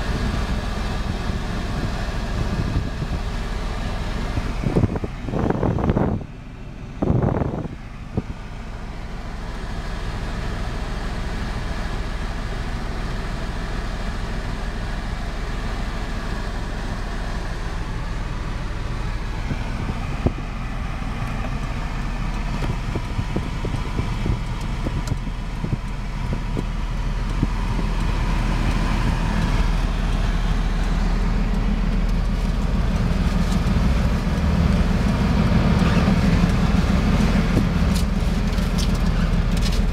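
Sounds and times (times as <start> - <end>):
small truck engine running: 0.0 - 39.9.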